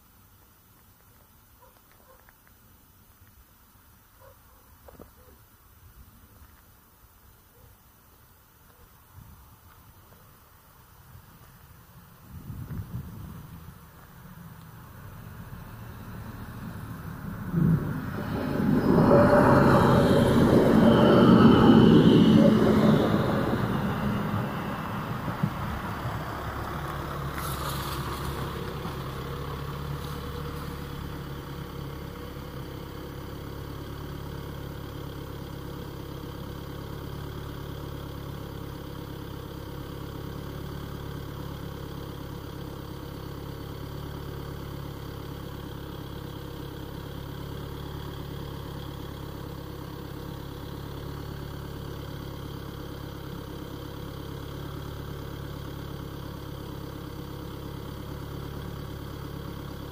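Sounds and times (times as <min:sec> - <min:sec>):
car engine idling: 0:10.3 - 0:59.9
car arriving: 0:11.3 - 0:59.9.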